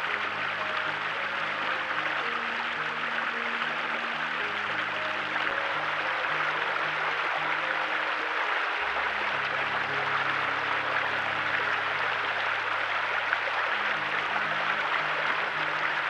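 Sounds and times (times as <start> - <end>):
river water rushing: 0.0 - 16.0
soft background music: 0.0 - 16.0.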